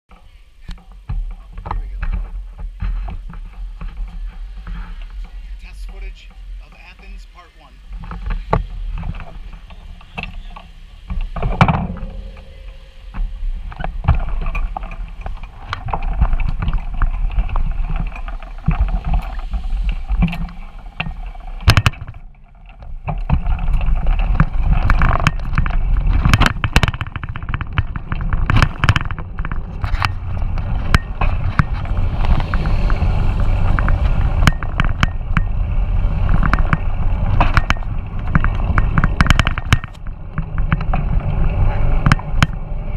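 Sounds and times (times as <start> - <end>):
bicycle knocks and rattles: 0.1 - 7.2, 7.8 - 42.9
wind buffeting microphone: 0.4 - 42.9.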